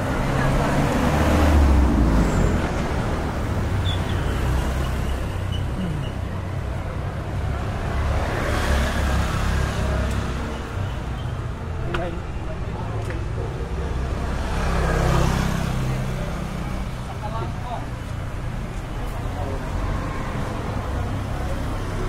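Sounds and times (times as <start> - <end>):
cars and scooters driving past: 0.0 - 22.0.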